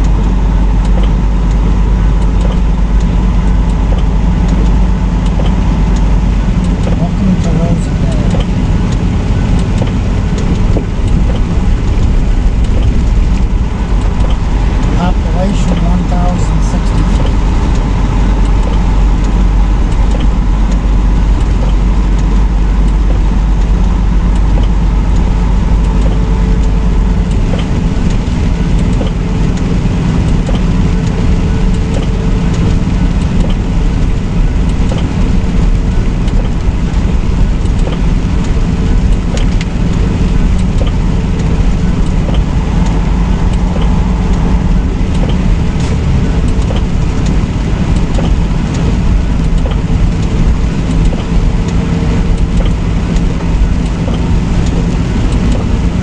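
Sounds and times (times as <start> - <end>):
road rumble: 0.0 - 56.0
truck engine drone: 0.0 - 56.0.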